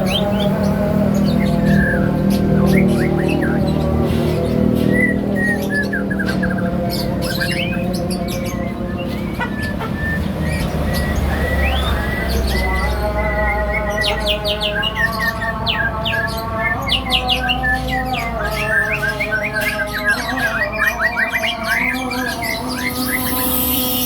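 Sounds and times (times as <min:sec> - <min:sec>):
birds chirping and squawking: 0:00.0 - 0:24.0.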